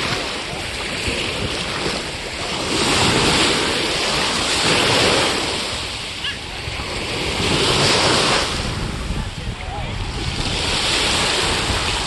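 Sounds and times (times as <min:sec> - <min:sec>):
sea waves on a beach: 0:00.0 - 0:12.0
wind rumbling on microphone: 0:00.0 - 0:12.0.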